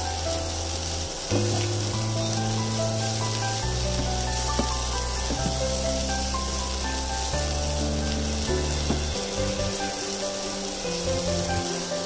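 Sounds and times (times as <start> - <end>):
background music of held notes: 0.0 - 12.0
fish frying in a pan: 0.0 - 12.0.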